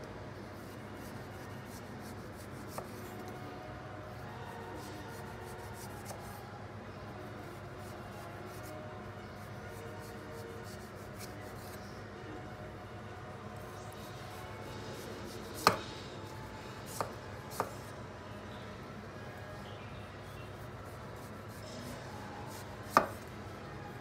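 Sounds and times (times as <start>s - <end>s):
faint music: 0.0s - 24.0s.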